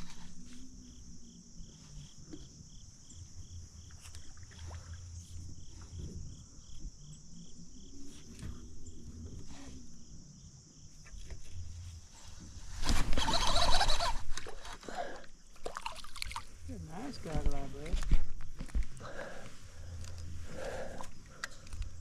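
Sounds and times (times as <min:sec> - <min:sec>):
cricket-like chirping: 0:00.0 - 0:22.0
insects buzzing: 0:00.0 - 0:22.0.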